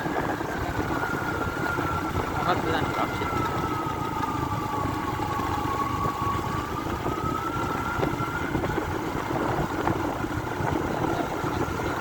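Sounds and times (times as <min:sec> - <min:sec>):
motorcycle engine whine: 0:00.0 - 0:12.0
road rumble: 0:00.0 - 0:12.0
wind: 0:00.0 - 0:12.0.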